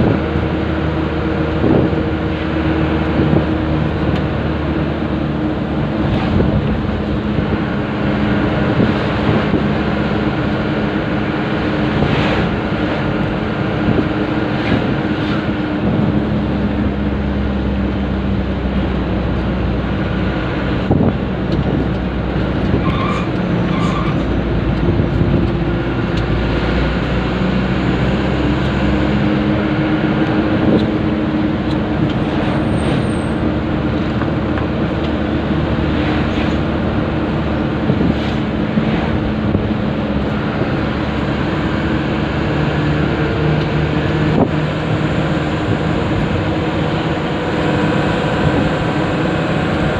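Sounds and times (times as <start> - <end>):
diesel truck engine running: 0.0 - 49.9
tyre and road noise: 0.0 - 49.9.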